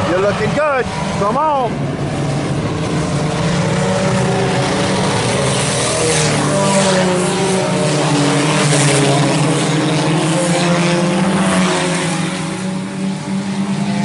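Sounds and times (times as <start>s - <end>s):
race cars engine drone: 0.0s - 14.0s.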